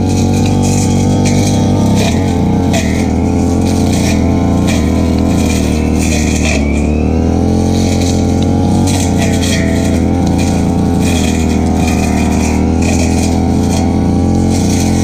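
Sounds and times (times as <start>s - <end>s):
blade swishing through grass: 0.0s - 15.0s
brush cutter engine running: 0.0s - 15.0s.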